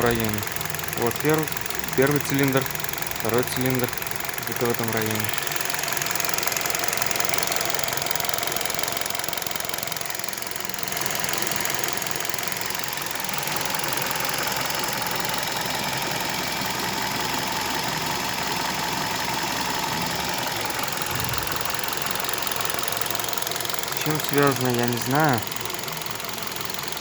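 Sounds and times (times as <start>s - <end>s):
car engine running: 0.0s - 27.0s
light engine knock: 0.0s - 27.0s.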